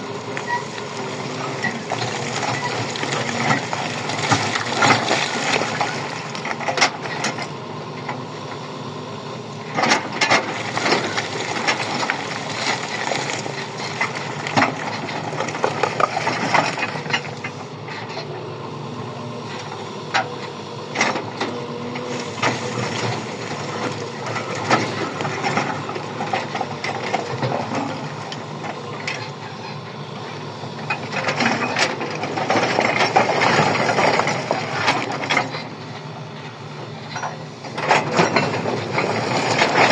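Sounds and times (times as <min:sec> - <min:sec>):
machinery running: 0:00.0 - 0:39.9.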